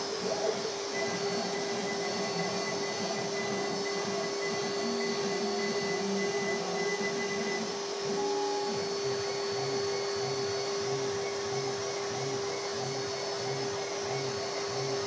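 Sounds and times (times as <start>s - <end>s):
router spindle whine cutting wood: 0.0s - 15.0s.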